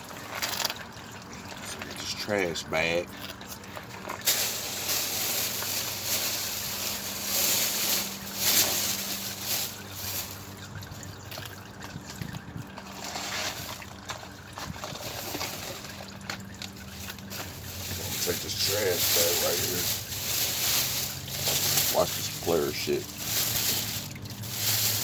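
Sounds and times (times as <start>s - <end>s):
fluid trickling and sloshing: 0.0s - 25.0s.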